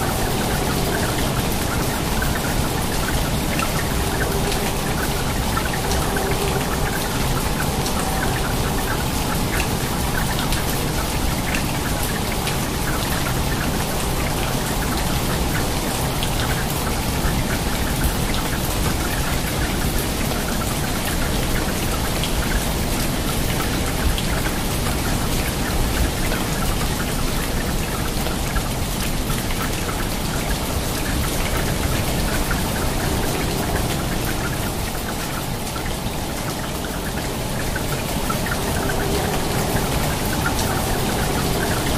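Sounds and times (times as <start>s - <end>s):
rain falling onto water: 0.0s - 41.9s.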